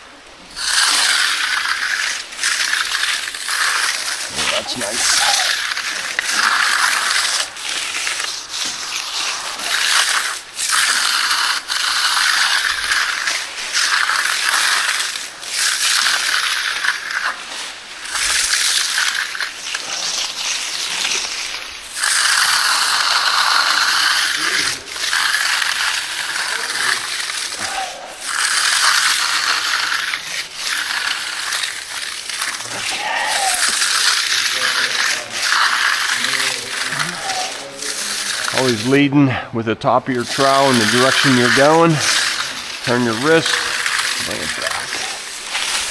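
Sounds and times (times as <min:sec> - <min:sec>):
trowel scraping concrete: 0:00.4 - 0:39.0, 0:40.1 - 0:45.9.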